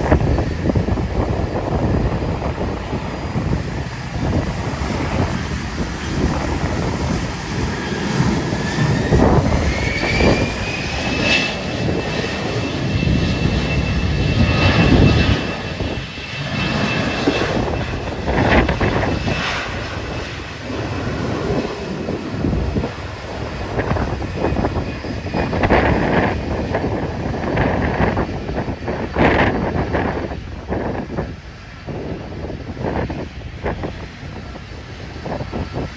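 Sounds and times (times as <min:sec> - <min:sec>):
jet engines whining: 0:00.0 - 0:35.9
wind buffeting microphone: 0:00.0 - 0:35.9.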